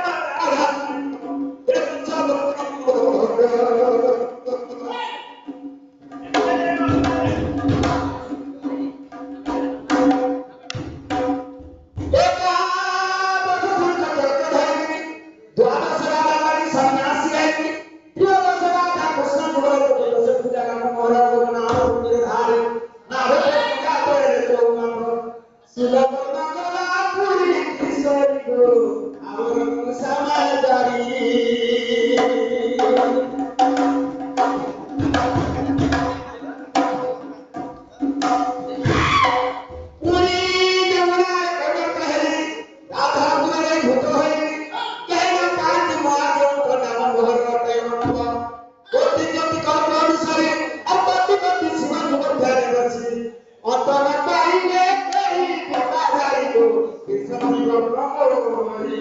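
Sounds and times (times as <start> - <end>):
man singing into a microphone: 0.0 - 5.0, 12.1 - 34.5, 38.4 - 59.0.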